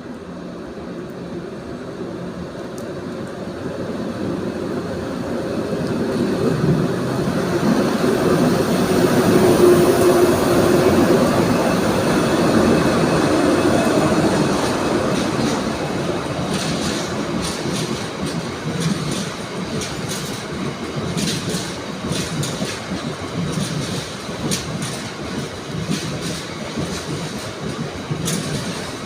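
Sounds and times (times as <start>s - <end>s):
train wheels rolling on rail: 0.0s - 29.0s
locomotive whine: 1.2s - 29.0s.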